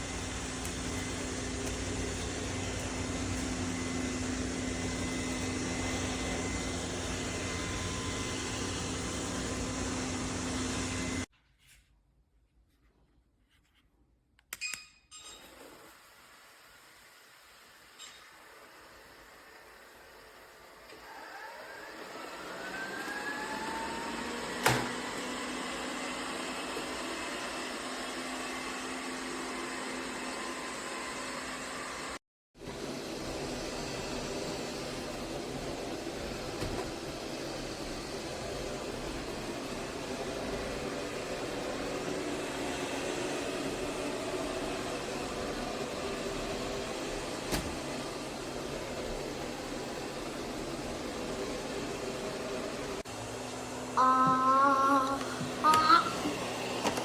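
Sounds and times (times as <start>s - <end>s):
robot vacuum motor whine: 0.0s - 11.3s, 18.8s - 57.0s.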